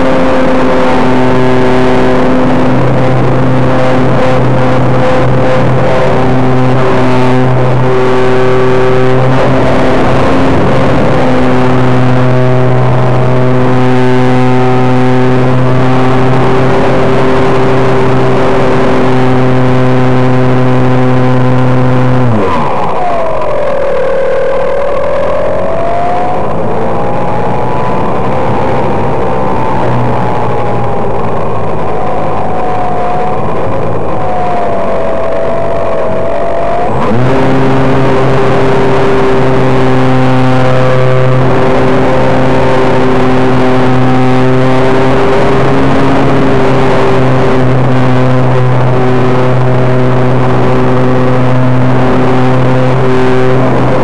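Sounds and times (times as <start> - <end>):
model airplane engine running: 0.0 - 54.0.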